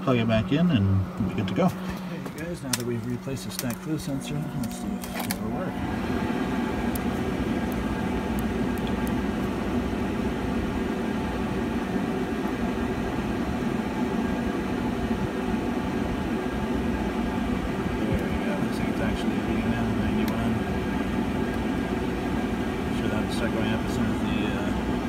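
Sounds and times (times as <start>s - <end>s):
pool heater rumbling: 0.0s - 25.0s.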